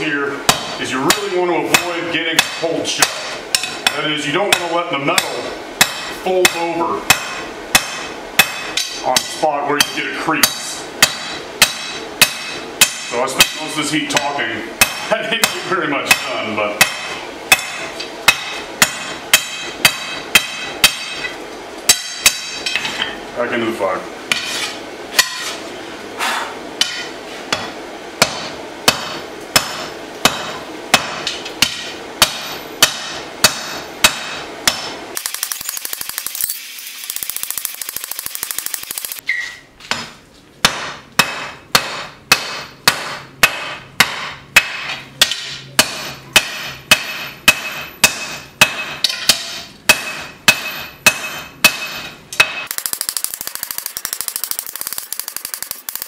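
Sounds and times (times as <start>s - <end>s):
hammer striking steel on anvil: 0.4s - 23.2s, 24.3s - 25.6s, 26.8s - 35.0s, 39.9s - 56.0s.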